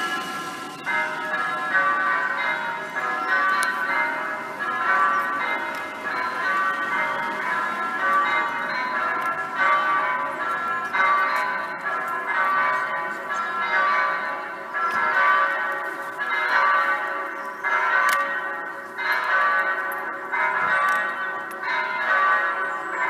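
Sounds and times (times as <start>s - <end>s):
electronic church bells pealing: 0.0s - 23.0s.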